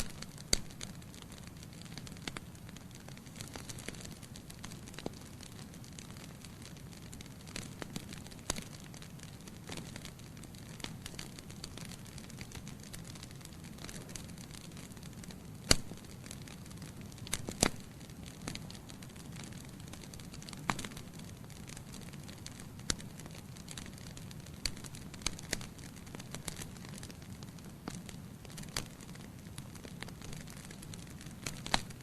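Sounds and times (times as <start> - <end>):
fire crackling and popping: 0.0 - 32.0
steady low hiss: 0.0 - 32.0.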